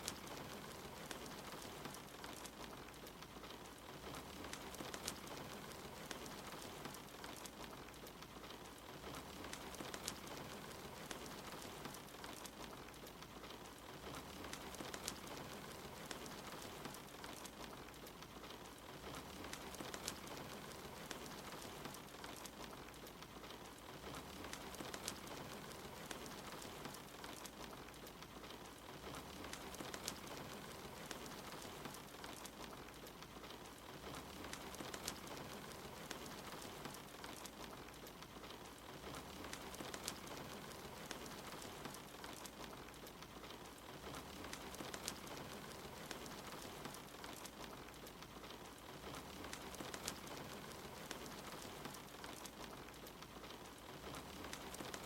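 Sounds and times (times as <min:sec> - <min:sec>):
soft steady rain: 0:00.0 - 0:55.0
wood fire crackling and popping: 0:00.0 - 0:55.0.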